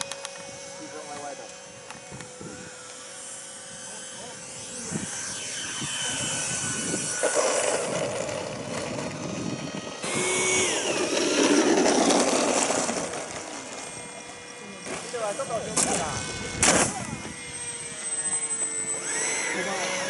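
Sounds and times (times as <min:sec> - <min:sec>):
electric ducted fans whining: 0:00.0 - 0:20.0.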